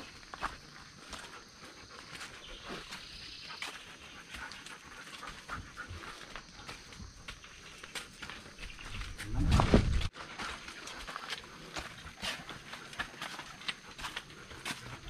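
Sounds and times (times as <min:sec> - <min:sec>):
dog panting: 0:00.4 - 0:08.6, 0:10.1 - 0:15.0.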